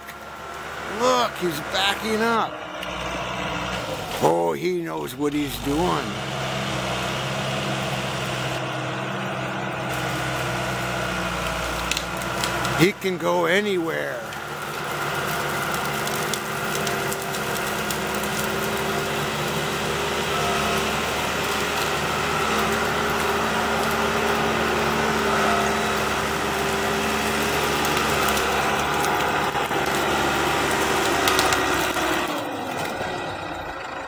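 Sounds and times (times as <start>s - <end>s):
tree-trimming machine engine running: 0.0s - 34.0s.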